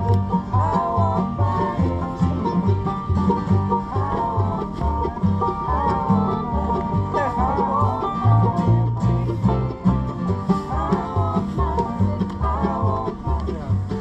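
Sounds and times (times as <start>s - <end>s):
acoustic bluegrass band playing: 0.0s - 14.0s.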